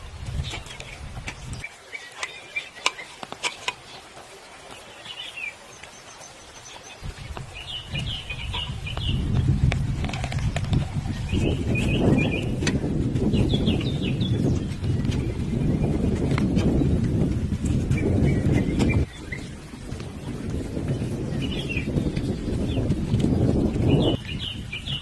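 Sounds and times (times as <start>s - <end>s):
small birds chirping: 0.3s - 25.0s.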